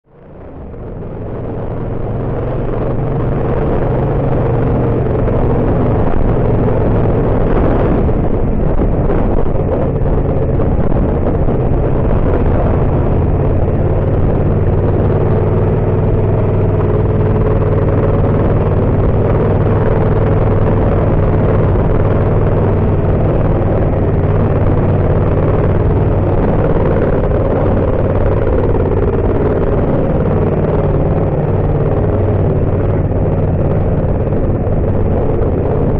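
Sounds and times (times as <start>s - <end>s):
road and wind noise: 0.0s - 35.9s
motorcycle engine running: 0.1s - 35.9s.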